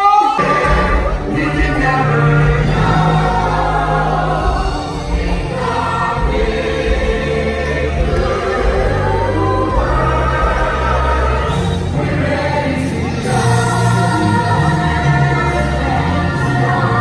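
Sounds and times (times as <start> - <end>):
backing music: 0.0 - 17.0
chorus singing: 0.0 - 17.0.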